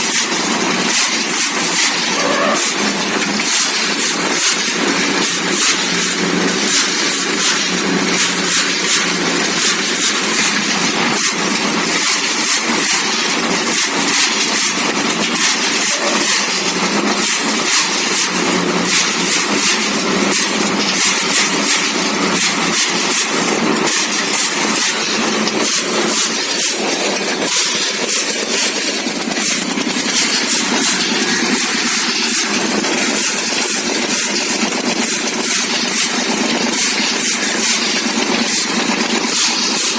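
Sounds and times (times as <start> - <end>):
small motor rattling: 0.0 - 39.9.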